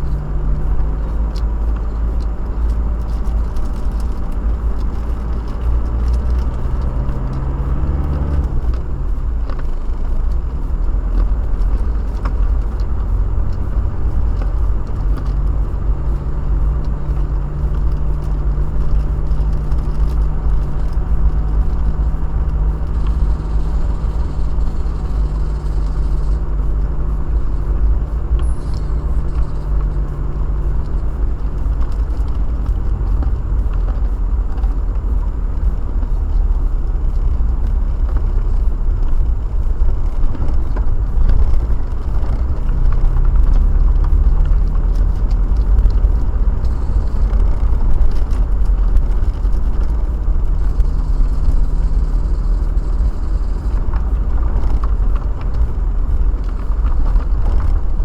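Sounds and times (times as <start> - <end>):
car road and engine rumble: 0.0 - 58.0
rain ticking: 0.0 - 58.0.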